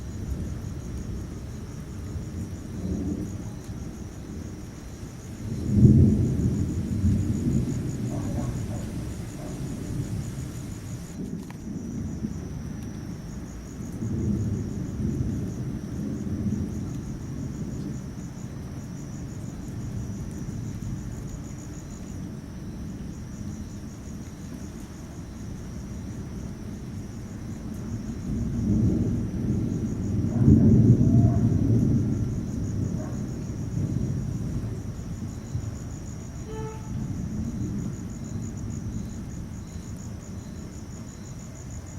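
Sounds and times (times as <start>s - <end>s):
insects trilling: 0.0s - 41.9s
thunder rumbling: 0.0s - 41.9s.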